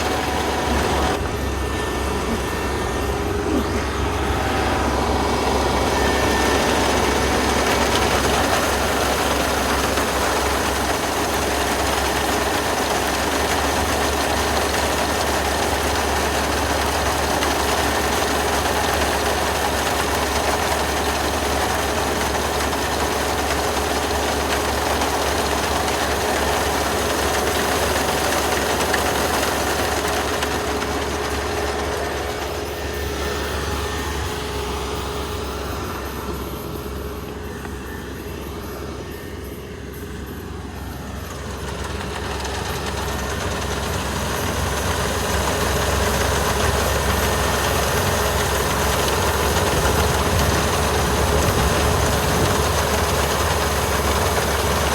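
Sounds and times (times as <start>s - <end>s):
combine harvester running: 0.0s - 54.9s.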